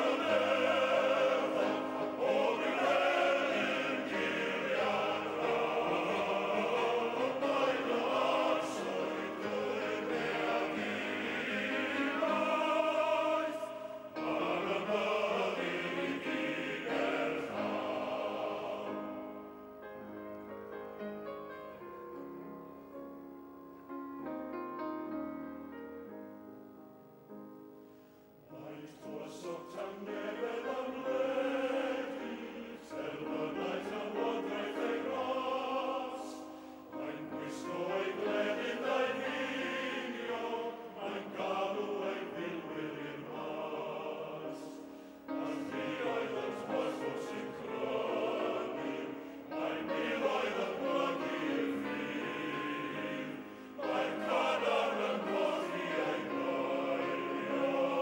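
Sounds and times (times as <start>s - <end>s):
male voice choir singing: 0.0s - 19.4s, 28.5s - 58.0s.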